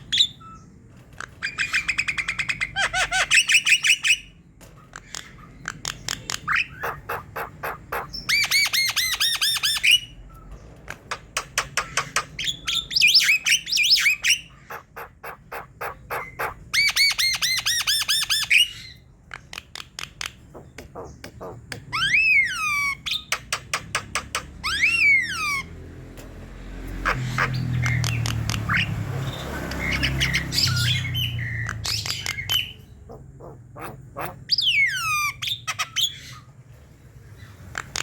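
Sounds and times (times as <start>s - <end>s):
bird chattering song: 0.0s - 25.7s, 27.0s - 36.6s.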